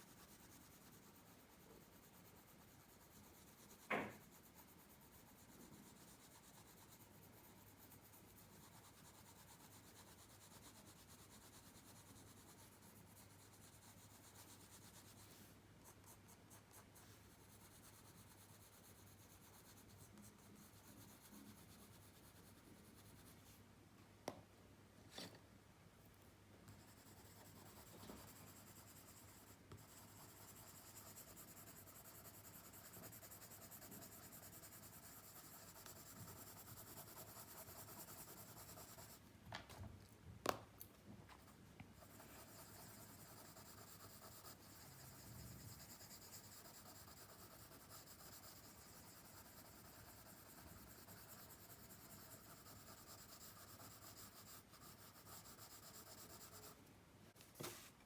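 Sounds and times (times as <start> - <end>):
pencil scratching on paper: 0.0 - 23.6, 26.7 - 39.2, 41.4 - 56.8.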